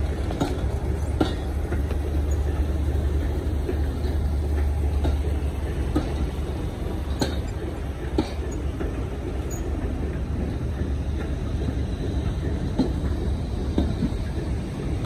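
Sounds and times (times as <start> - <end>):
train coaches rumbling past: 0.0 - 15.0
wheels clicking over rail joints: 0.0 - 15.0.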